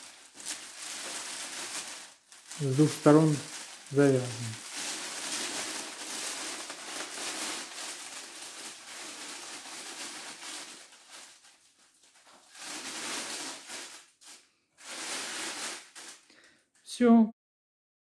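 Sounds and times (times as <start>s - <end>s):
plastic bag rustling and crinkling: 0.0s - 16.5s.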